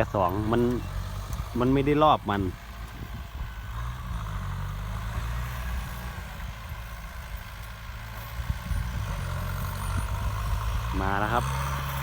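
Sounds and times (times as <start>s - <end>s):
tractor diesel engine lugging: 0.0s - 12.0s.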